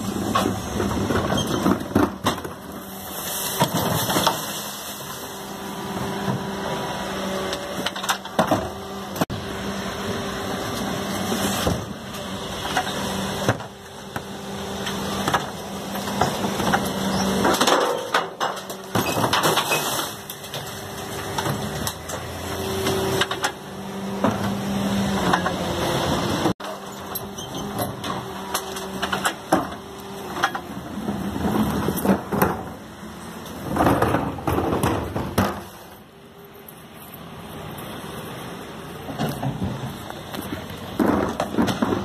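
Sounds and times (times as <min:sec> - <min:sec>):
bins banging against hopper: 0:00.0 - 0:06.8, 0:10.8 - 0:36.0, 0:39.0 - 0:42.0
truck engine and hydraulics humming: 0:00.0 - 0:42.0.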